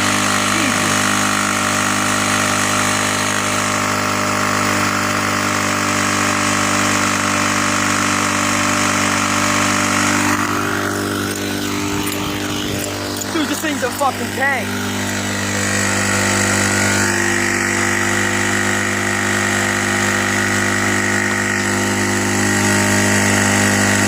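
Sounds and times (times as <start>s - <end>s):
small go-kart engine running: 0.0s - 24.0s.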